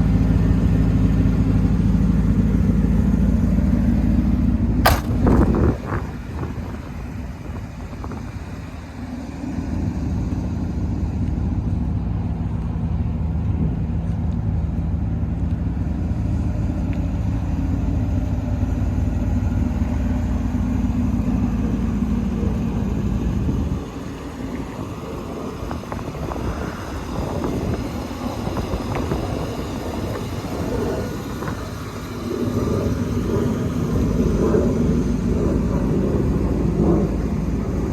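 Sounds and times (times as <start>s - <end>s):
car engine running: 0.0s - 37.9s.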